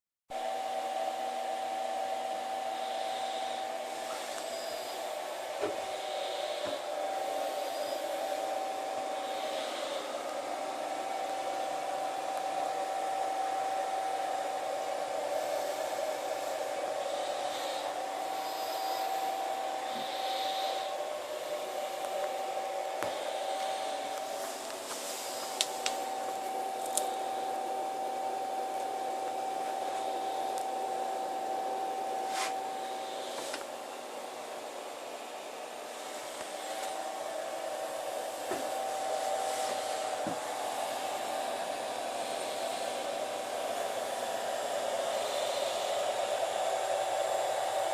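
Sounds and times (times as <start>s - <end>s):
cnc router spindle whine: 0.3s - 47.9s.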